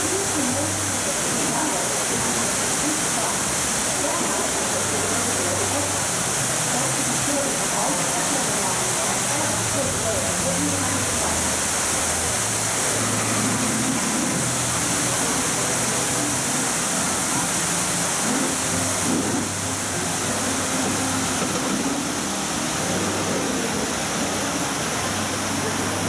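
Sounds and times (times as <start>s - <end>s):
water pouring down fountain wall: 0.0s - 26.0s.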